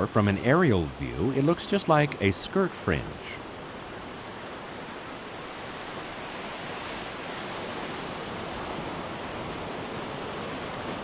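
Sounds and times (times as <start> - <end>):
sea surf rushing on shore: 0.0 - 11.0.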